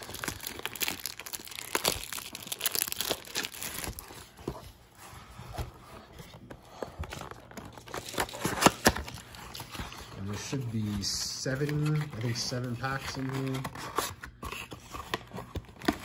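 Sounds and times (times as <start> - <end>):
plastic wrap crinkling and tearing: 0.0 - 4.4, 7.1 - 16.0.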